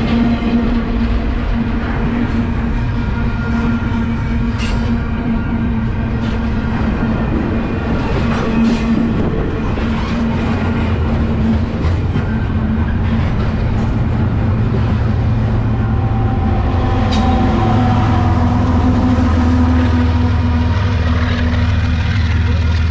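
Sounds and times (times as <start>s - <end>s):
diesel locomotive rumble: 0.0s - 22.9s
train cars clattering over rails: 4.4s - 22.9s.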